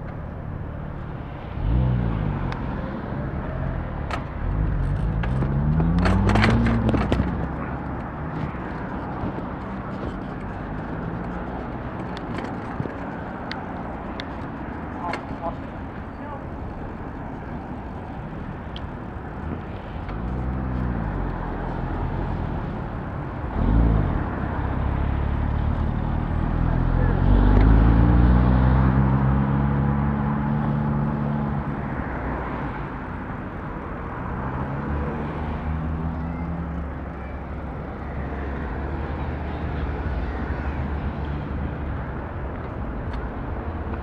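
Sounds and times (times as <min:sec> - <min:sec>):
car engines pulling away: 0:00.0 - 0:44.0
steady low traffic rumble: 0:00.0 - 0:44.0.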